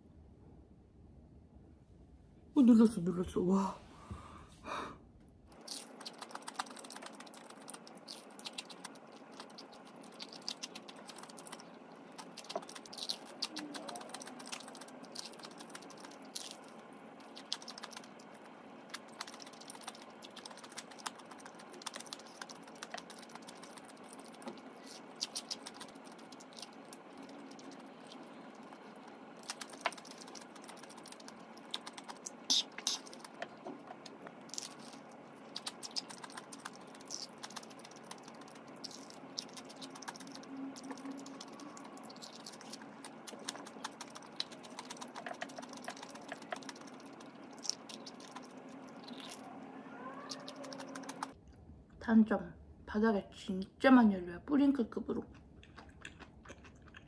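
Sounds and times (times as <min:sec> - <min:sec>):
crispy chicken crunching: 0:05.5 - 0:51.4, 0:55.3 - 0:57.0.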